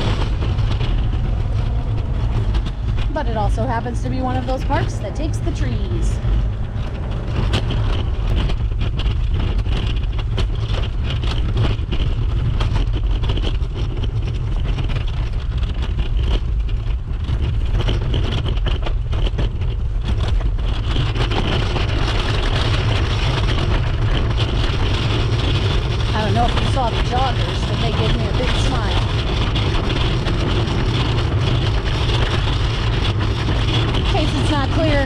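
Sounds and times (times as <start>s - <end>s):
scooter wheels rolling over snow: 0.0s - 35.0s.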